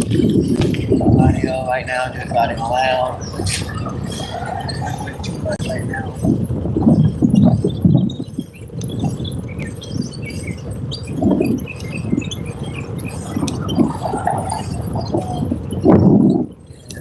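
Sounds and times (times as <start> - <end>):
bicycle clicking and rattling: 0.0 - 17.0
wind buffeting microphone: 0.0 - 17.0.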